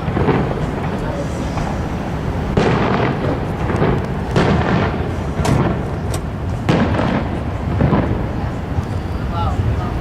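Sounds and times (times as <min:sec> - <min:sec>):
low rumble of booms: 0:00.0 - 0:08.8
fireworks bangs: 0:00.0 - 0:10.0.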